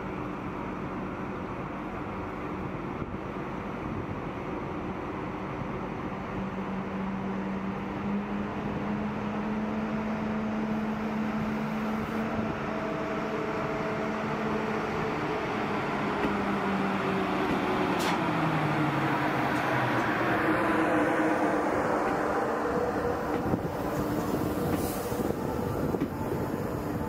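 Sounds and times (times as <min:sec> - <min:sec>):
train rumbling in a station: 0:00.0 - 0:27.0.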